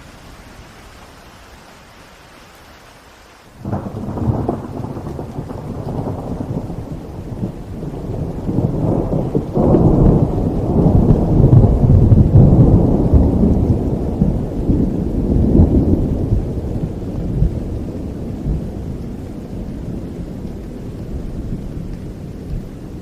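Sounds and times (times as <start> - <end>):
steady rain: 0.0 - 23.0
thunder rumbling: 3.6 - 23.0.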